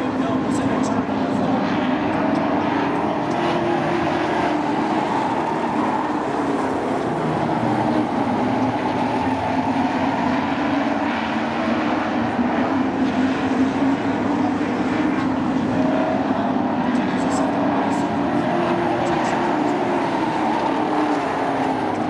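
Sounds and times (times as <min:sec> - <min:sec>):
race truck engines at speed: 0:00.0 - 0:22.0.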